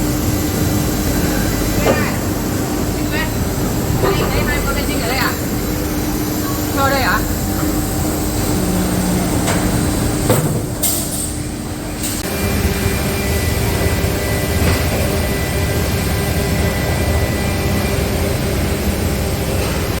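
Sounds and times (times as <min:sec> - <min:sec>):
low factory rumble: 0:00.0 - 0:20.0
mid-pitched hum: 0:00.0 - 0:20.0.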